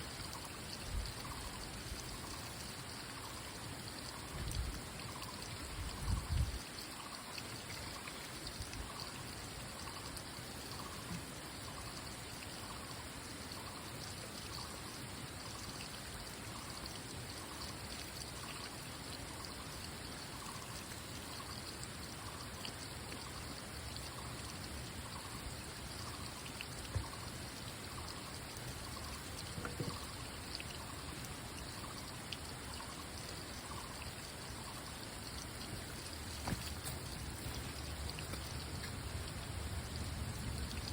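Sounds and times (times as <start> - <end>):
water trickling and pouring: 0.0 - 40.9.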